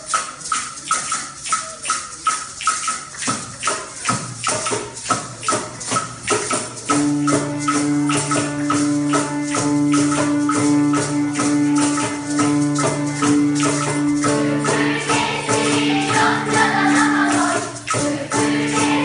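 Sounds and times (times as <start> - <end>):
percussion beat: 0.0 - 19.0.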